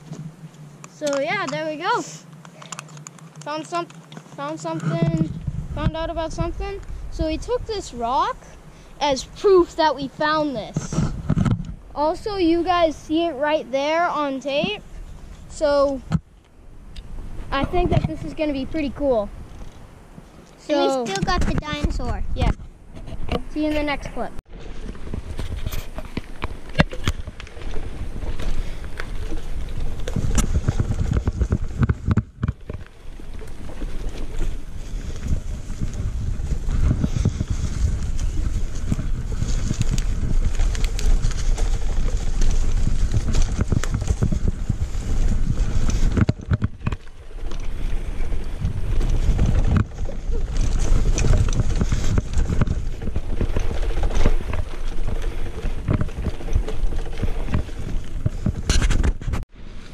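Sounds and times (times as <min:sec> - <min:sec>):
tyres crunching on dirt: 0:00.0 - 0:16.4, 0:17.0 - 0:59.9
bike rattling over bumps: 0:00.0 - 0:59.9
wind buffeting microphone: 0:03.4 - 0:59.8.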